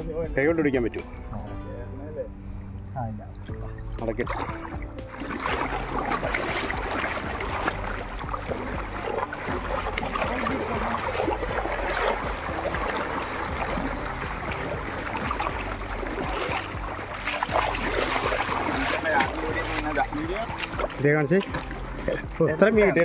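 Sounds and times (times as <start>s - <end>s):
water rushing and splashing: 3.2s - 23.0s.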